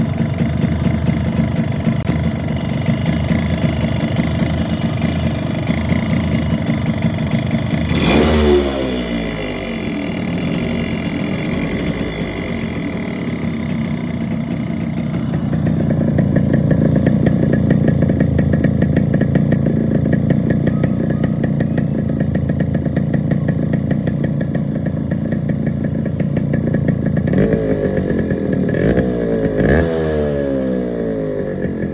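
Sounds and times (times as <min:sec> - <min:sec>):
engine knocking: 0:00.0 - 0:30.0
two-stroke engine running: 0:00.0 - 0:31.9.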